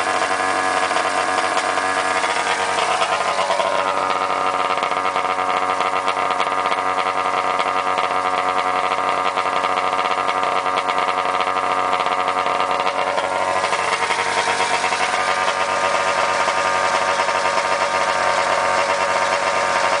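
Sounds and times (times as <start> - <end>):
snowmobile engine idling: 0.0 - 20.0.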